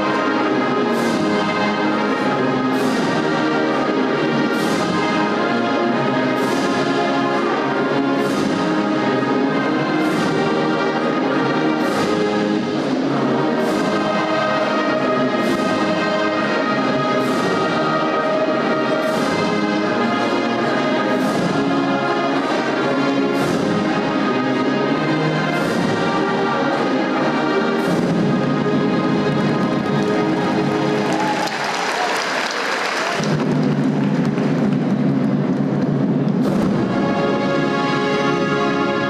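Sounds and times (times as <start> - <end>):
choir singing in harmony: 0.0 - 32.4, 36.4 - 39.0.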